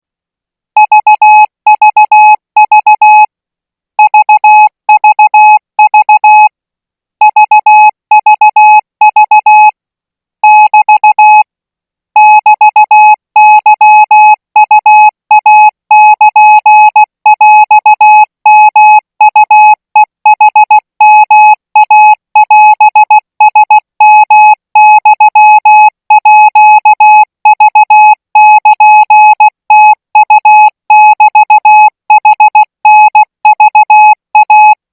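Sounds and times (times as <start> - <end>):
morse code beeps: 0.8 - 3.3, 4.0 - 6.5, 7.3 - 9.7, 10.4 - 11.4, 12.2 - 34.8.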